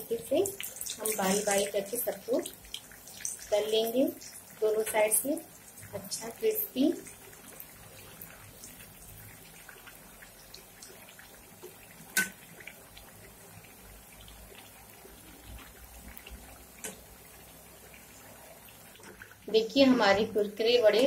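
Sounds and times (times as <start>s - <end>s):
oil sizzling with crackles: 0.0s - 21.0s.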